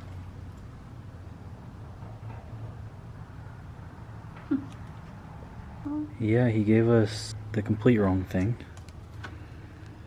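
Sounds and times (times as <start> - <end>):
faint background noise: 0.0 - 10.0
low mechanical hum: 0.0 - 10.0.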